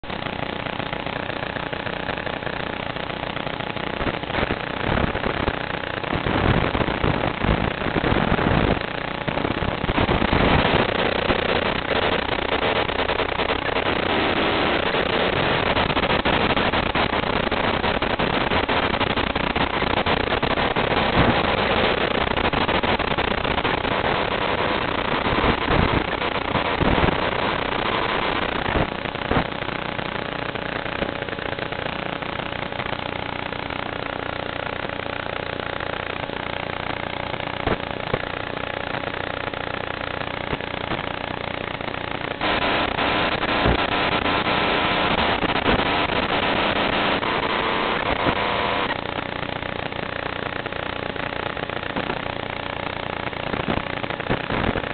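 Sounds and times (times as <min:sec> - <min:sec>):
harsh static and rushing noise: 0:00.0 - 0:54.9.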